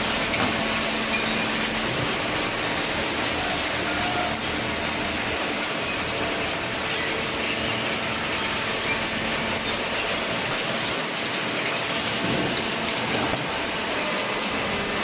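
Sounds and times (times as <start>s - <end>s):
conveyor mechanical rattle: 0.0s - 15.0s.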